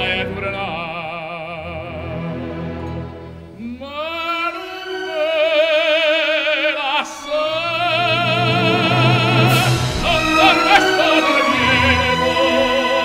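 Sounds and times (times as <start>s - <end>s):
operatic voice singing: 0.0s - 2.7s, 3.5s - 13.0s
orchestral accompaniment: 0.0s - 13.0s.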